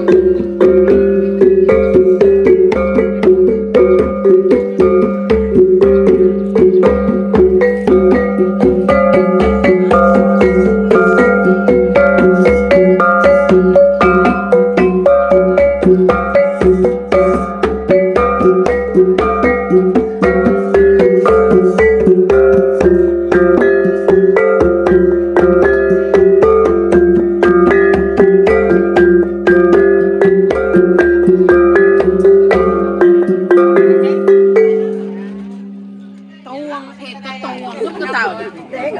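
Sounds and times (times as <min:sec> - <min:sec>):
steady deep beat: 0:00.0 - 0:38.9.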